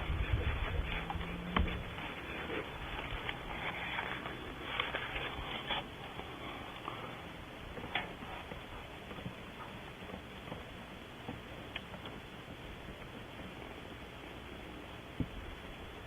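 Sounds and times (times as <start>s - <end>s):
hands clicking and rustling: 0.0s - 13.8s.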